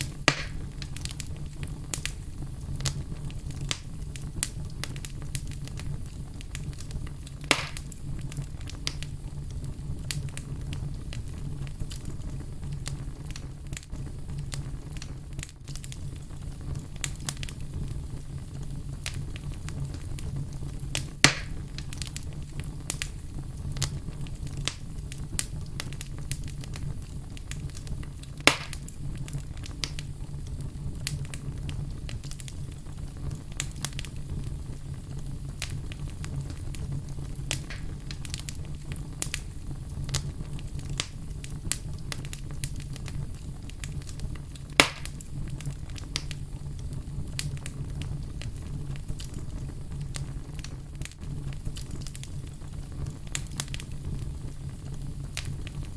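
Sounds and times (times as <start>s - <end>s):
fire pops: 0.0s - 55.9s
wood fire crackling: 0.0s - 55.9s.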